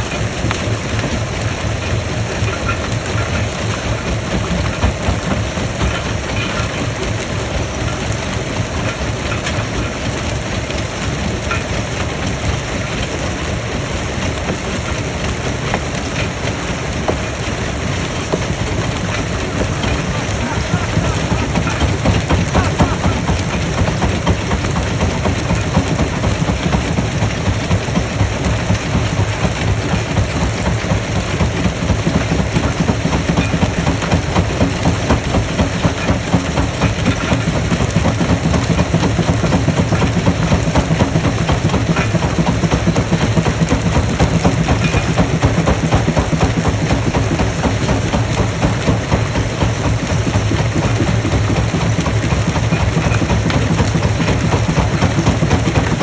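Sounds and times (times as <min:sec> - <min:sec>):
stone crushing machine running: 0:00.0 - 0:56.0.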